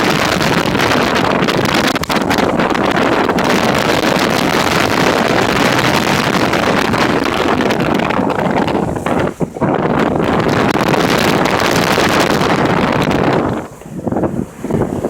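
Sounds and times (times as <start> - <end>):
storm wind blasting microphone: 0.0 - 15.0.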